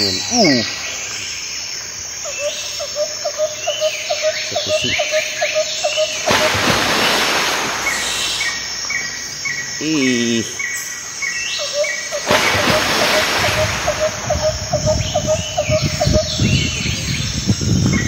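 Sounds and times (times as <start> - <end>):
birds and insects chirping: 0.0 - 18.0.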